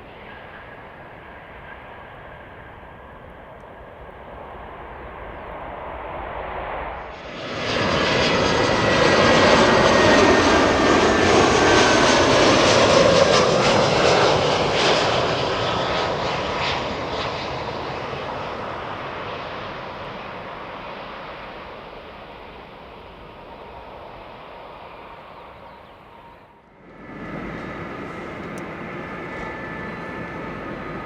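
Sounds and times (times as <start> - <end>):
jet engines passing: 0.0 - 31.0.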